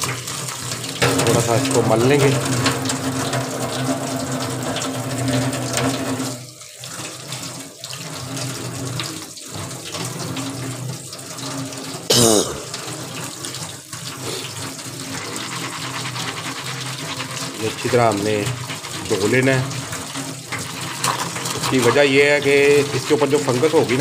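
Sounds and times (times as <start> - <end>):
tap water running into sink: 0.0 - 24.0.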